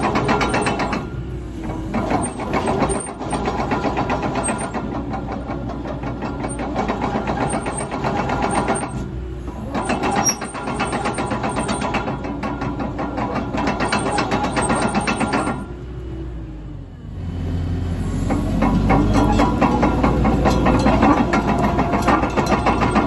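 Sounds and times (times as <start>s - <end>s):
excavator diesel engine clattering: 0.0s - 17.2s, 17.8s - 23.0s.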